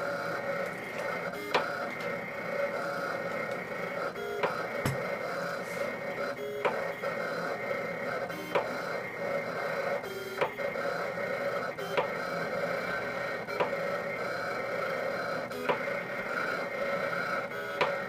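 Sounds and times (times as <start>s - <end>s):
vinyl cutter motors whining: 0.0s - 18.0s.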